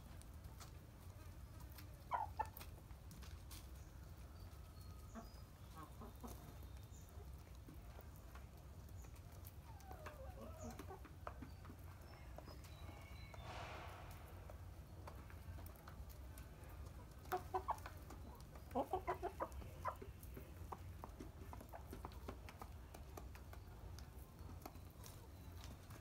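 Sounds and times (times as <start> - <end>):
beaks pecking grain: 0.0 - 26.0
chickens clucking: 0.0 - 26.0.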